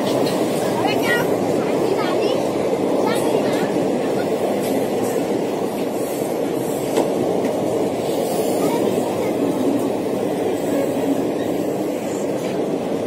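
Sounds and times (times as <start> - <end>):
passenger train rolling: 0.0 - 13.0.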